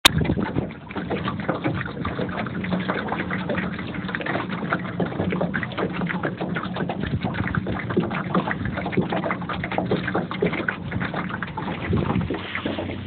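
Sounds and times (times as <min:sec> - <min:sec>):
boat motor humming: 0:00.0 - 0:13.0
water slapping against hull: 0:00.0 - 0:13.0.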